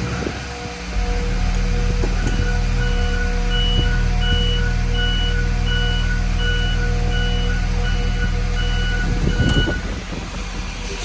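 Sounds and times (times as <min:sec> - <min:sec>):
reverse alarm beeping: 0:00.0 - 0:10.0
idling engine hum: 0:00.0 - 0:11.0.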